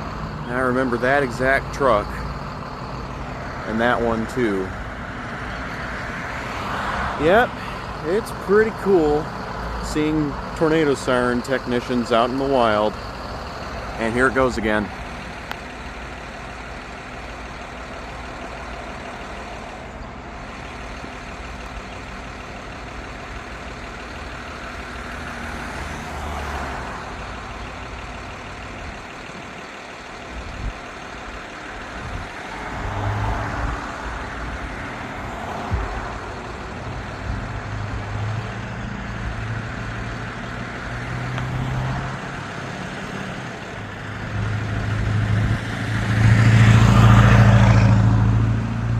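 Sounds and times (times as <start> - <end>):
vehicle engine low hum: 0.0 - 48.9
vehicles passing by: 0.0 - 48.9.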